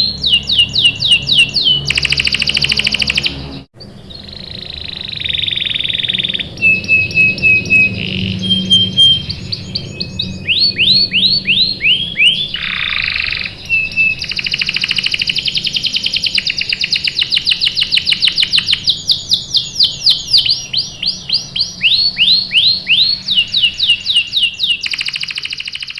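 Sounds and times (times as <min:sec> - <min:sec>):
canary singing: 0:00.0 - 0:25.9.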